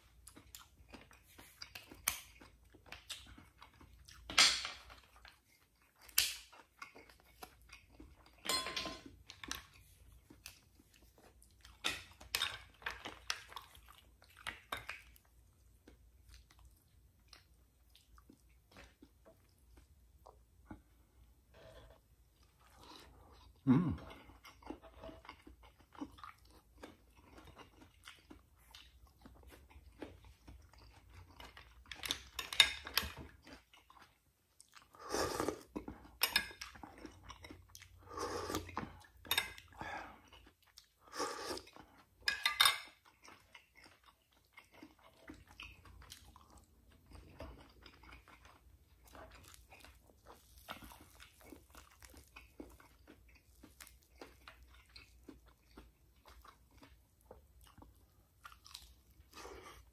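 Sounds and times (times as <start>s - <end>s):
chewing and mouth sounds: 0.0s - 59.9s.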